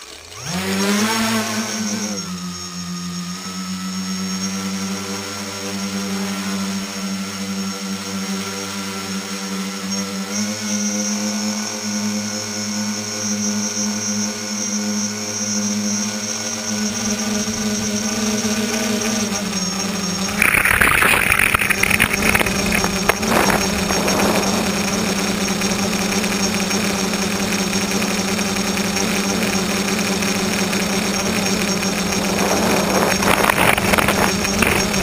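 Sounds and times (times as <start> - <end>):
drone motors and propellers droning: 0.0 - 35.0.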